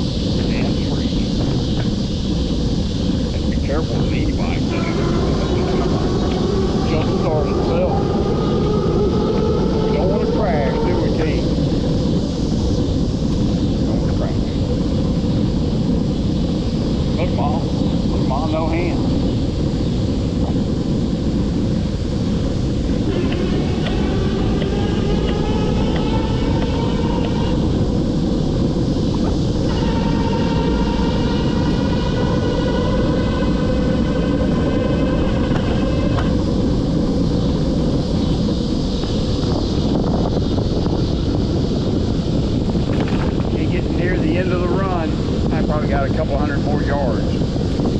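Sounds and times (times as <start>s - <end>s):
faint whine: 0.0s - 47.9s
wind rumble on microphone: 0.0s - 47.9s.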